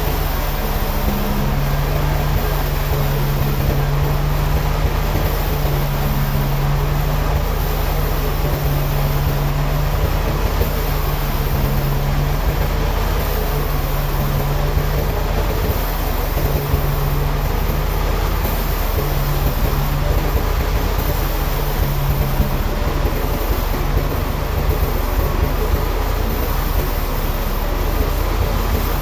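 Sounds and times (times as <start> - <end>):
heavy machinery droning: 0.0 - 29.0.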